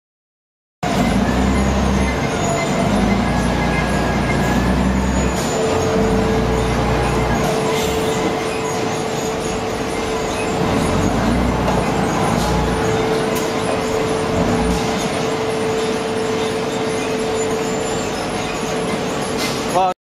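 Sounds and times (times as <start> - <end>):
diesel engine running: 0.8 - 19.5
steady high hum: 1.0 - 19.8.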